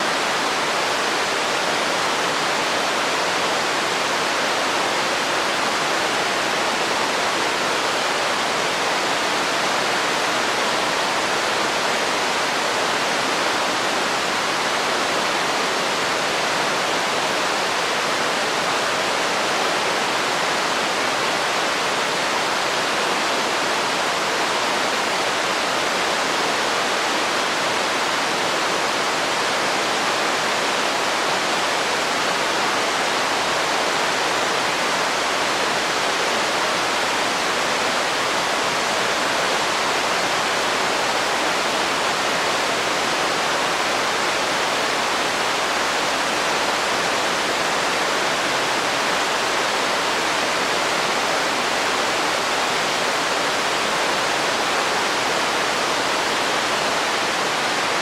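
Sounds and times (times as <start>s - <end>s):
rush of falling water: 0.0s - 58.0s.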